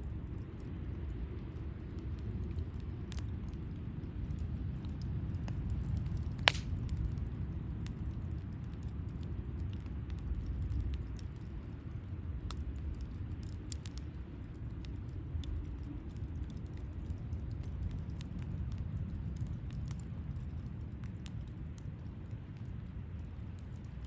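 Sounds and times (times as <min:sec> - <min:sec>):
campfire crackling: 0:00.0 - 0:24.0
fire popping: 0:00.0 - 0:24.0
steady low rumble: 0:00.0 - 0:24.0.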